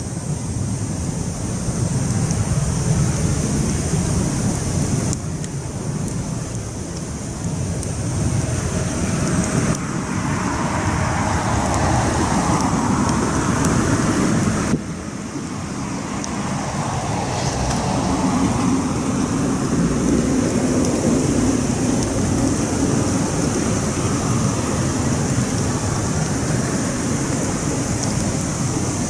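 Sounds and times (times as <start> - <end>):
campfire flames roaring: 0.0 - 29.0
fire crackles and pops: 0.0 - 29.0.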